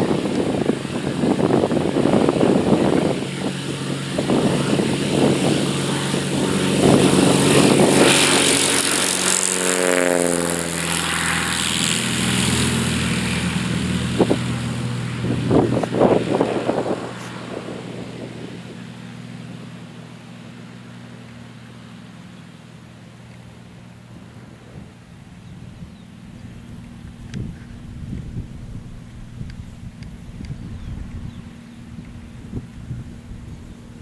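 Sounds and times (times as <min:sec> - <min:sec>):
propeller plane engine running: 0:00.0 - 0:34.0.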